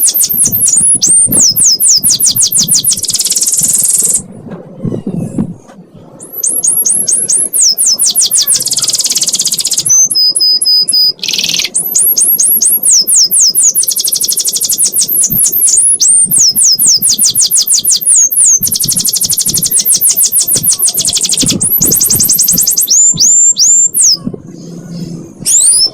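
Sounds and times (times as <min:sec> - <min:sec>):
canary singing trills: 0:00.0 - 0:05.4, 0:06.2 - 0:25.9.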